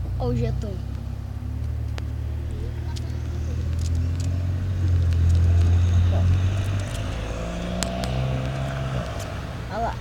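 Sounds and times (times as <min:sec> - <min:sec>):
car engine and exhaust drone: 0:00.0 - 0:10.0.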